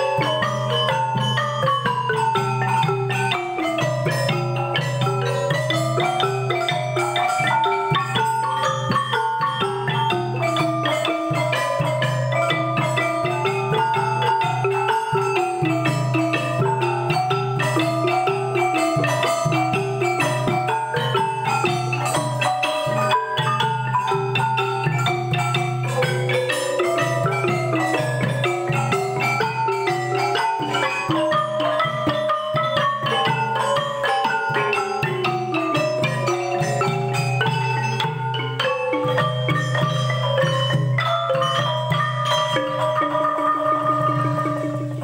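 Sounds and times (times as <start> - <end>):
xylophone ensemble music: 0.0 - 45.0.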